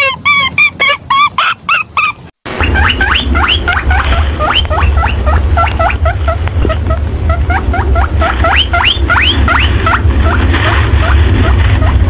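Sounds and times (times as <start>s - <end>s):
baby rabbits squeaking: 0.0s - 12.0s
steady low rumble: 0.0s - 12.0s.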